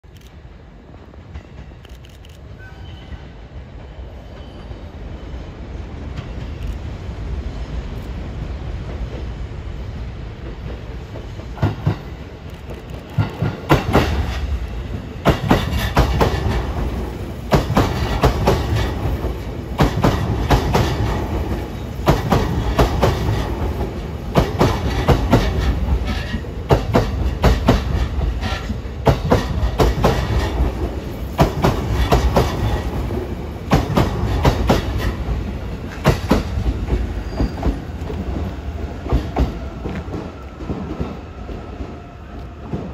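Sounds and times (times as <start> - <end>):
electric train low rumble: 0.1 - 42.9.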